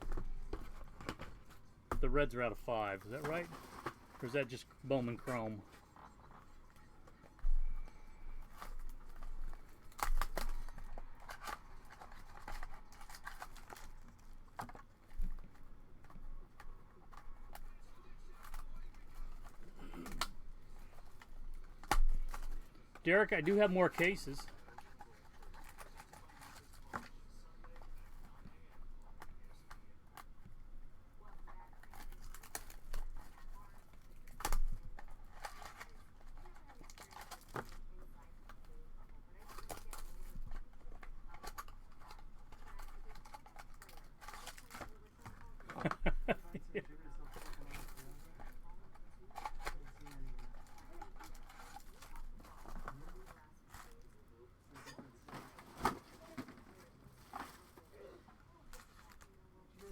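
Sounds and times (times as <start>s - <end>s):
packaging crinkling and tearing: 0.0s - 30.4s, 31.2s - 54.2s.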